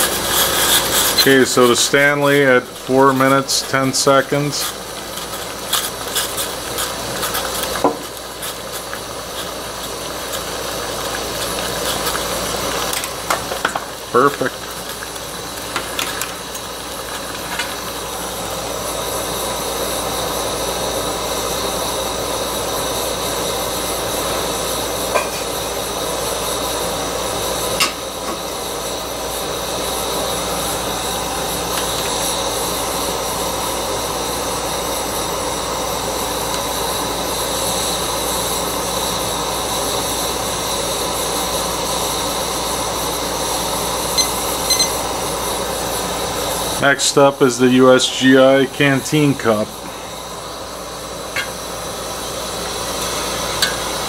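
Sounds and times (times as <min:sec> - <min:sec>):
camp stove burner hissing: 0:00.0 - 0:54.0.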